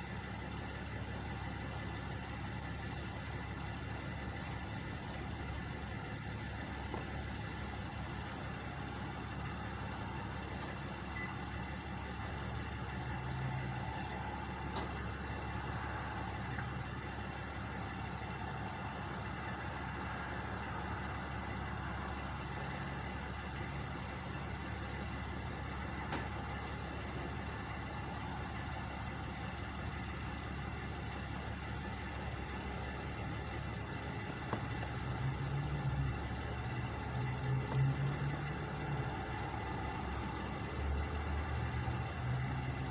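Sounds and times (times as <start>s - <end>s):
diesel truck engines idling: 0.0s - 42.9s.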